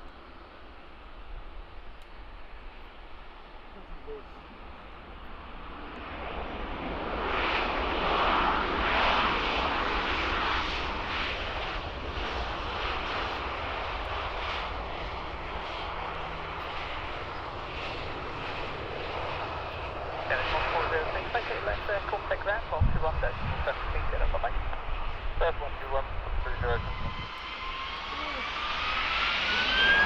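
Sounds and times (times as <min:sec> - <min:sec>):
jet engines landing: 0:00.0 - 0:30.0.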